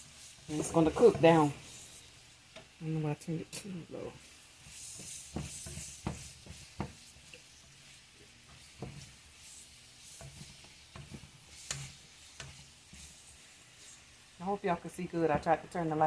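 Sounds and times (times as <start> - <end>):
spatula scraping pot: 0.0 - 2.7, 3.4 - 14.4
vegetables sizzling: 0.0 - 16.0.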